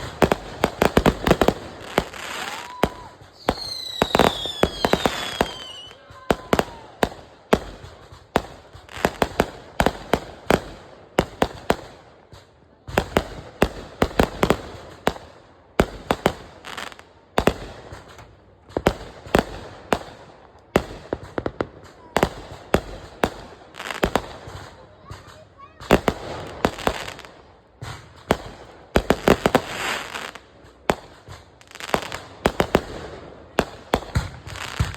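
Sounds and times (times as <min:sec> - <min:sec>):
fireworks bangs: 0:00.0 - 0:34.9.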